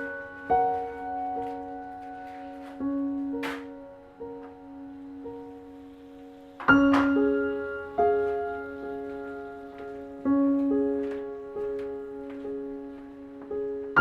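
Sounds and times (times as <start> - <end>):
slow solo piano music: 0.0 - 14.0.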